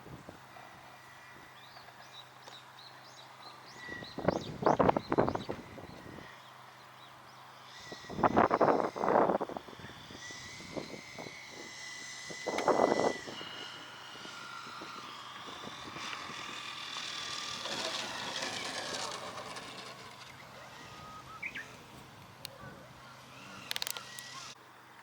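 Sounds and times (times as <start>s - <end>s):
model plane propeller whine: 0.0s - 24.6s.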